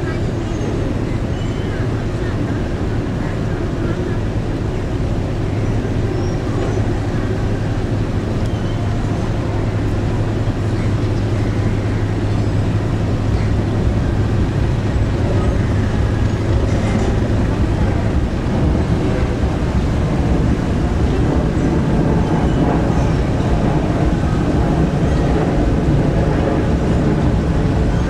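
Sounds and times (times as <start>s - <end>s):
ferry engines humming: 0.0s - 28.0s
machinery and water rush: 0.0s - 28.0s.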